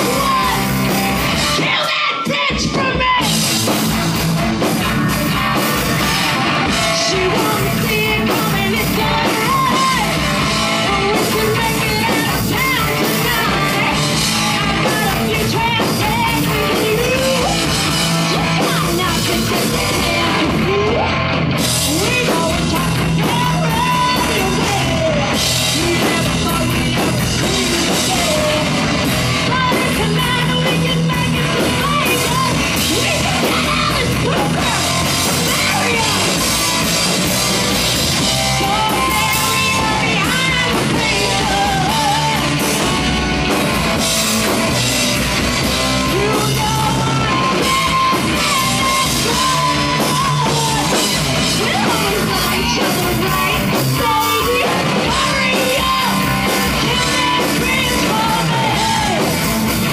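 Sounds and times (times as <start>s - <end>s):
woman singing: 0.0s - 4.0s, 5.2s - 43.6s, 45.5s - 59.9s
heavy metal band playing: 0.0s - 59.9s.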